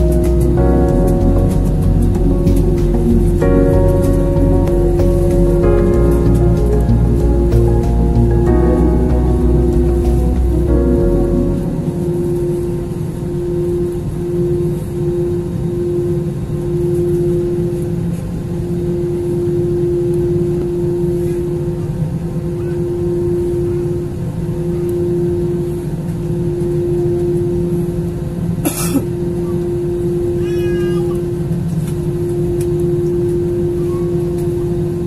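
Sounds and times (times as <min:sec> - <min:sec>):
jet engine cabin hum: 0:00.0 - 0:35.0
mid-pitched drone tone: 0:00.0 - 0:35.0.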